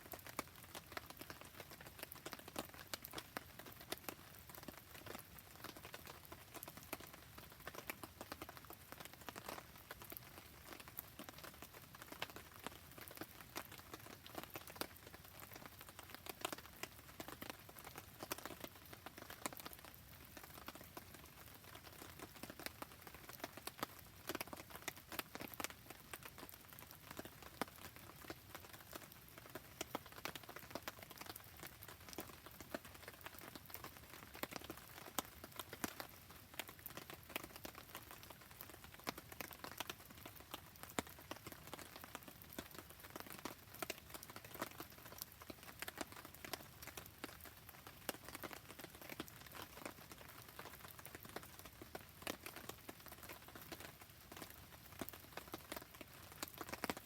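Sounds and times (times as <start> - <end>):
rain pattering: 0.0 - 57.0
wood campfire crackling: 0.1 - 57.0.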